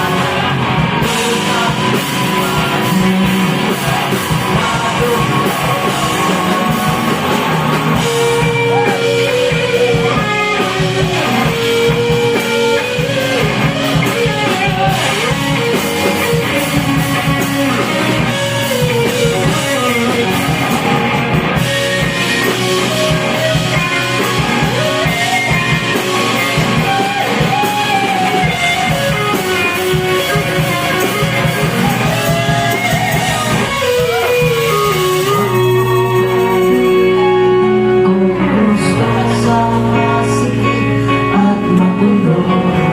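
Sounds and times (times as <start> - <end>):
electric guitar lines: 0.0 - 42.9
rock band playing: 0.0 - 42.9.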